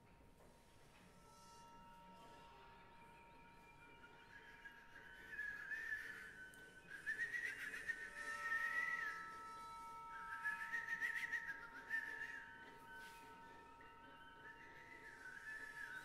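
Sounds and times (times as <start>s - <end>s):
soft held tones: 0.4s - 16.0s
breathy whistle-like tone: 0.6s - 16.0s.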